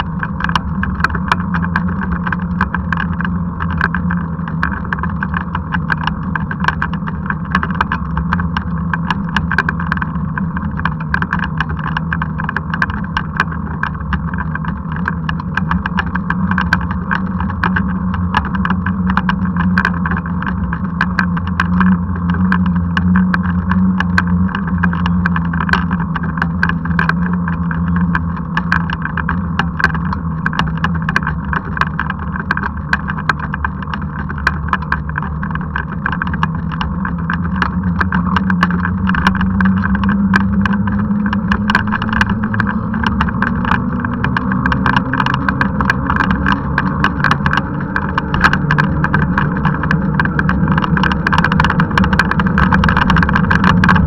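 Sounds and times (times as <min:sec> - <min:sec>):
small ticks and rattles: 0:00.0 - 0:54.0
tyres rumbling on paved road: 0:00.0 - 0:54.0.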